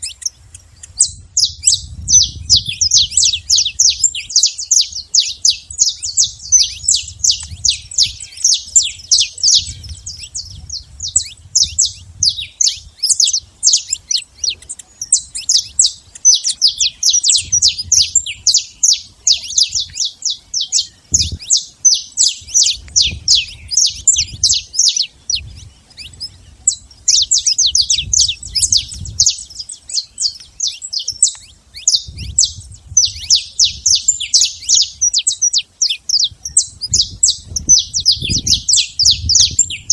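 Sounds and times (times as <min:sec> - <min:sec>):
finch singing sharp chirps: 0:00.0 - 0:39.9.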